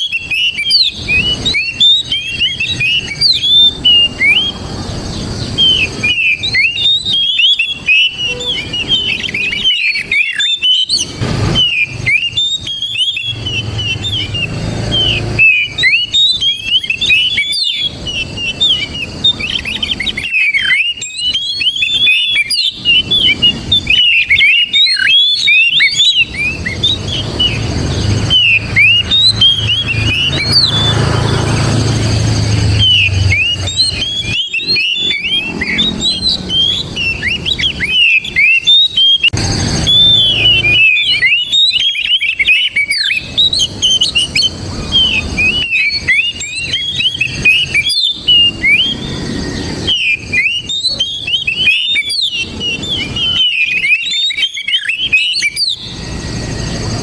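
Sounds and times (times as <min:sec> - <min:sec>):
bird singing whistles and chirps: 0:00.0 - 0:57.0.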